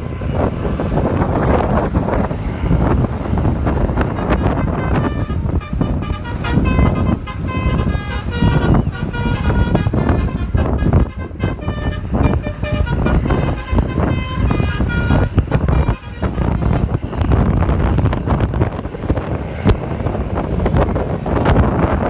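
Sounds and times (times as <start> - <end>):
multi-tone air horn tune: 0.0 - 22.0.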